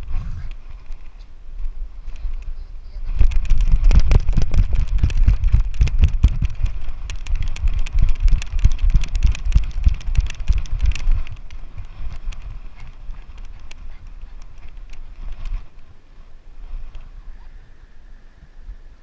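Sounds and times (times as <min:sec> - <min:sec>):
camera thumps and rattling: 0:00.0 - 0:16.0
low rumble: 0:00.0 - 0:19.0.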